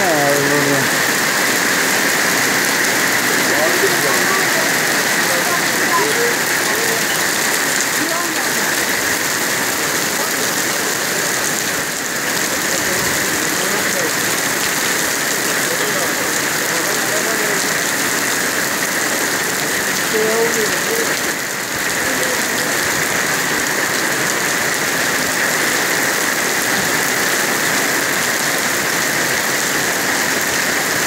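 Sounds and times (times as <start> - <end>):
heavy rain on street and cars: 0.0 - 31.0.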